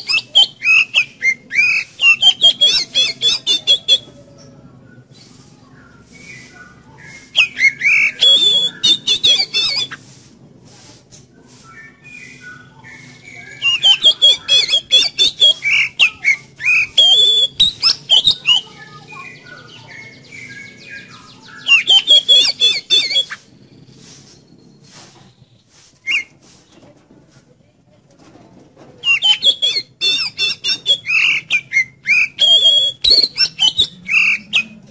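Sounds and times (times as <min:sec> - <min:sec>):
songbird whistling and harsh notes: 0:00.0 - 0:04.2, 0:04.9 - 0:10.2, 0:11.5 - 0:26.4, 0:29.0 - 0:34.9.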